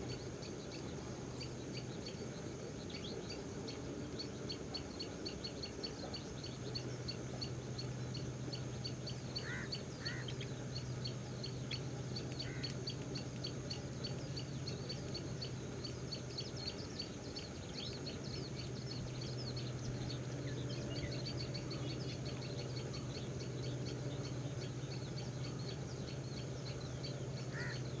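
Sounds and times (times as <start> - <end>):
birds chirping: 0.0 - 28.0
low hum: 0.0 - 28.0.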